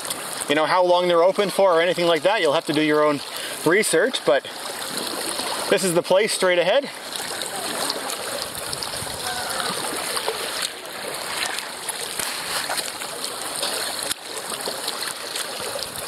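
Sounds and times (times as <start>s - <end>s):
water splashing against kayak: 0.0s - 16.0s.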